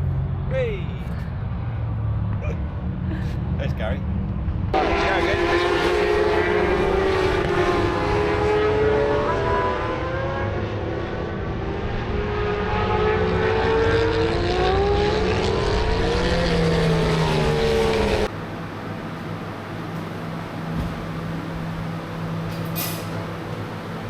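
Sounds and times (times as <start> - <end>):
racing motorcycle engines: 0.0 - 24.0.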